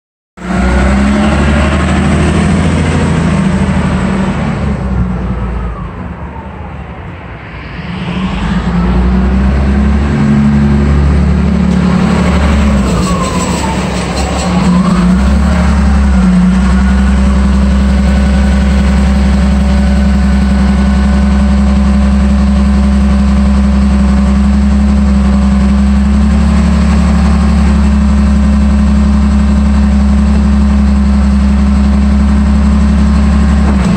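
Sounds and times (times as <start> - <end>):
wheel loader diesel engine: 0.4 - 33.9.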